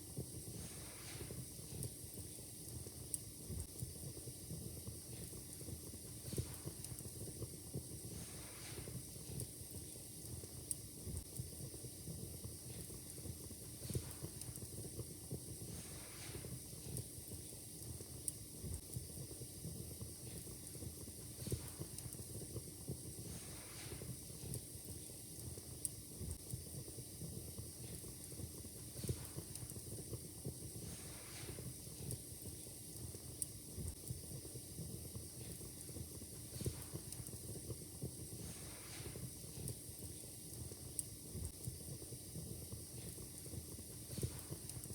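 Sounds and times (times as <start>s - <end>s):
steady hiss: 0.0s - 44.9s
wood fire crackling: 0.0s - 44.9s
fire popping: 0.1s - 44.9s.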